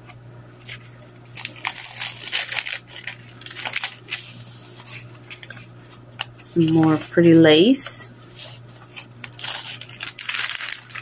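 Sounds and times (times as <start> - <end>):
paper pages rustling: 0.0 - 7.2, 8.3 - 11.0.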